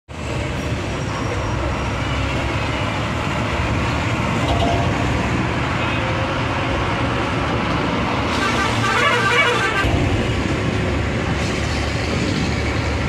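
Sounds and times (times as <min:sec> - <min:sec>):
vehicle engine and tyre rumble: 0:00.1 - 0:13.0.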